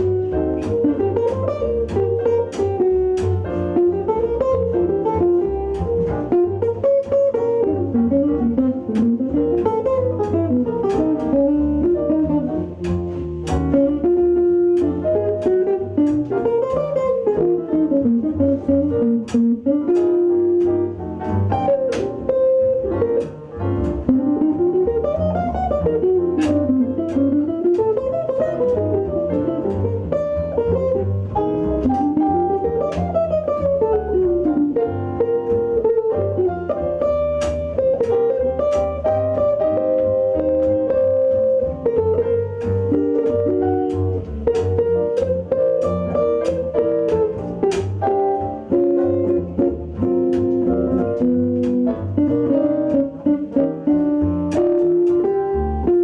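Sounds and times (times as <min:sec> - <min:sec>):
bass line: 0:00.0 - 0:56.0
piano chords: 0:00.0 - 0:56.0.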